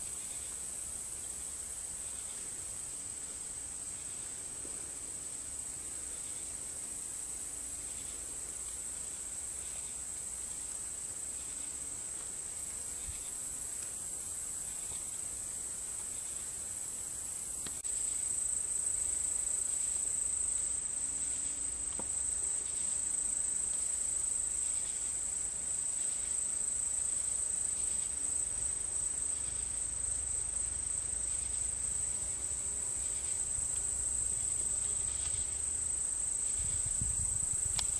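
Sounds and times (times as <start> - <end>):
insects chorusing: 0.0 - 37.9.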